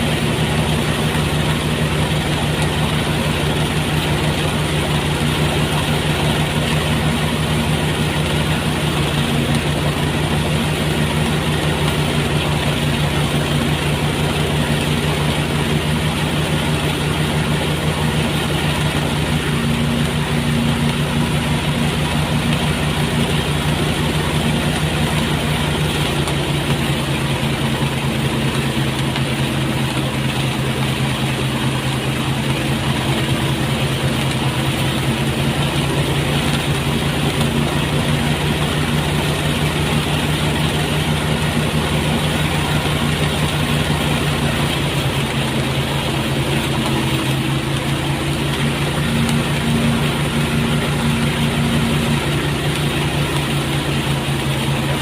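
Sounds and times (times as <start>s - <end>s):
threshing machine engine hum: 0.0s - 55.0s.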